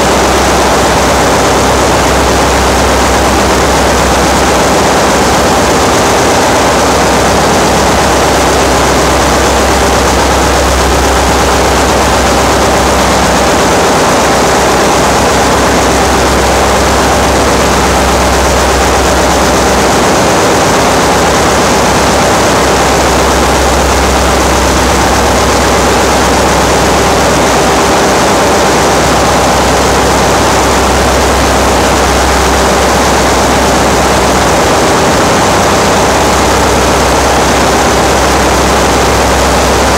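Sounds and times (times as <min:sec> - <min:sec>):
engine-room machinery din: 0:00.0 - 0:39.9.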